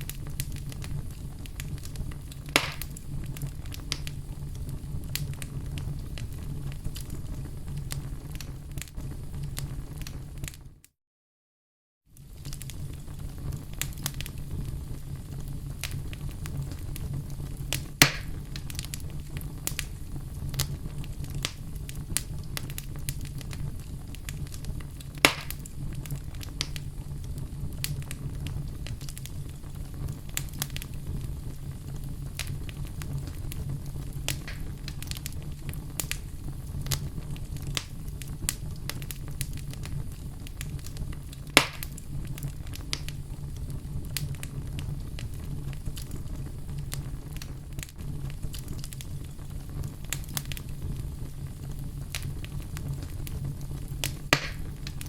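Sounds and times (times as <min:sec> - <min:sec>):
loud fire pops: 0:00.0 - 0:10.7, 0:12.2 - 0:55.0
fire crackles: 0:00.0 - 0:10.9, 0:12.1 - 0:55.0
fire rumbling in fireplace: 0:00.0 - 0:10.9, 0:12.1 - 0:55.0.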